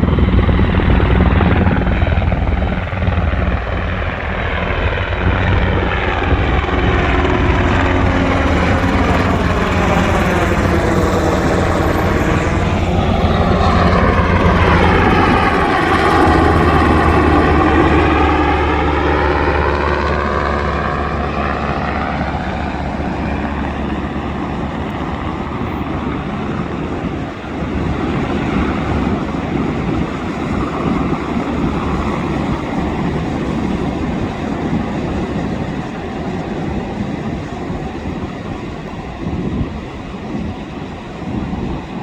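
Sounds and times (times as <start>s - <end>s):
helicopter passing overhead: 0.0s - 42.0s
steady rushing noise: 0.0s - 42.0s.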